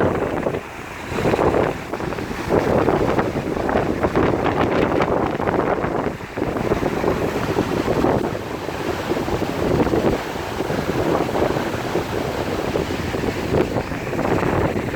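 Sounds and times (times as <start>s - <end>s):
wind blowing on microphone: 0.0s - 14.9s.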